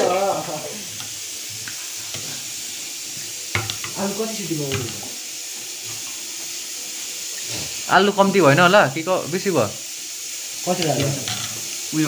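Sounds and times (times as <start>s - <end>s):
steady hiss: 0.1s - 12.0s.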